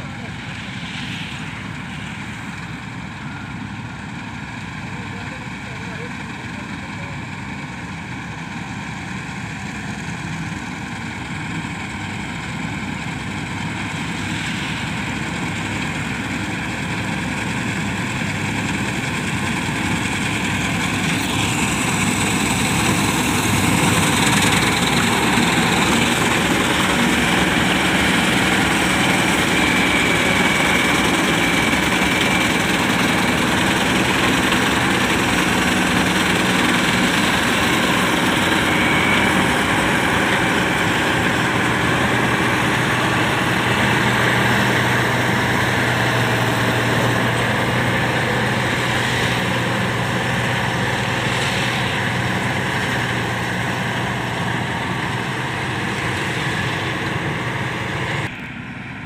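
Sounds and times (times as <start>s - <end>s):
combine harvester running: 0.0s - 59.0s
high machine whine: 6.2s - 59.0s.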